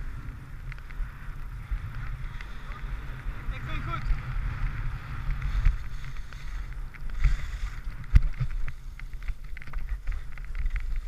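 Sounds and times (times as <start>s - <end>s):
skis scraping over snow: 0.0s - 11.0s
wind buffeting microphone: 0.0s - 11.0s.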